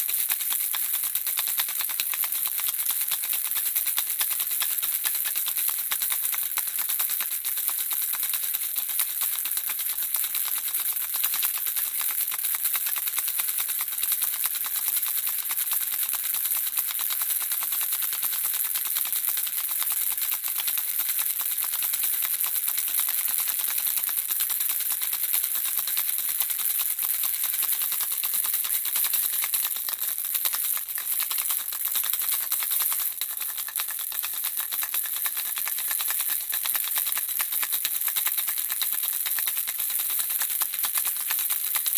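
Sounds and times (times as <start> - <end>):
baby rattle shaking: 0.0 - 41.9.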